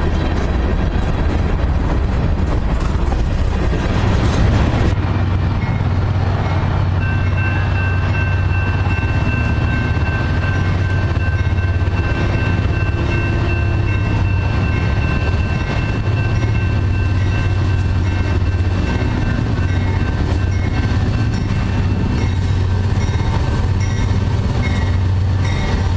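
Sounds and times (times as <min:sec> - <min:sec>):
train rumbling past: 0:00.0 - 0:25.9.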